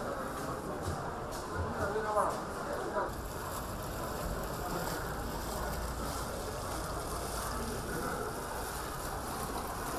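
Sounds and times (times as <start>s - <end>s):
outdoor background noise: 0.0s - 9.9s.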